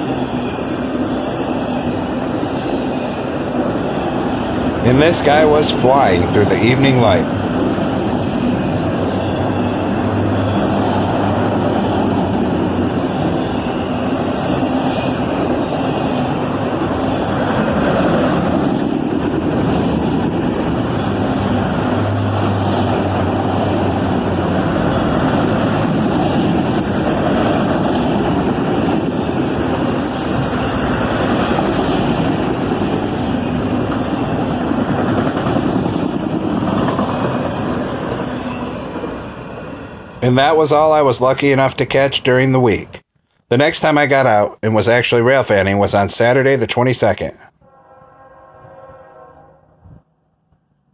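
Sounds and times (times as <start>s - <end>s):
freight train passing: 0.0s - 43.0s, 43.6s - 50.9s.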